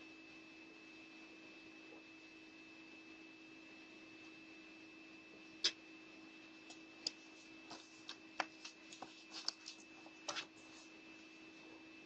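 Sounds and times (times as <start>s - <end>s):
faint electronic whine and hum: 0.0s - 12.0s.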